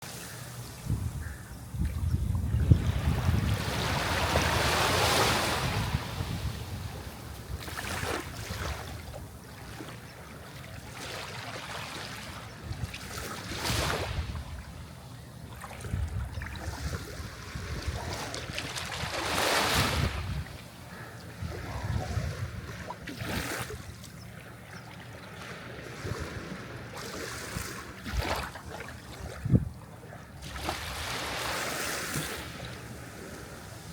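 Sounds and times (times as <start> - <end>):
sea waves washing ashore: 2.5 - 33.9.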